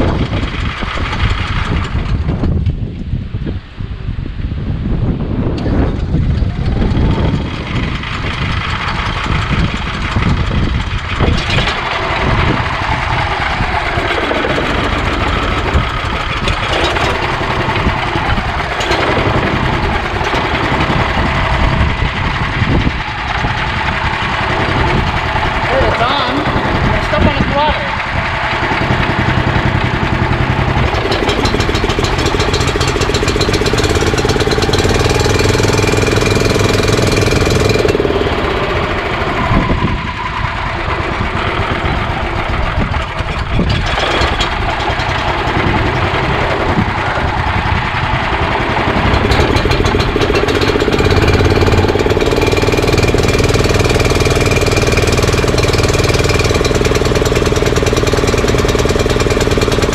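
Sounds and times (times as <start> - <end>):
small engine running: 0.0 - 2.8, 5.5 - 59.9.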